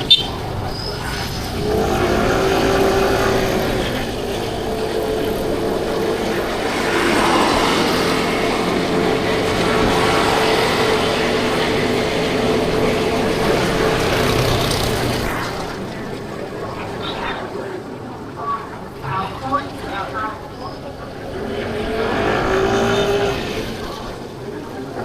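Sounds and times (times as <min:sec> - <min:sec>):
road and traffic noise: 0:00.0 - 0:25.0.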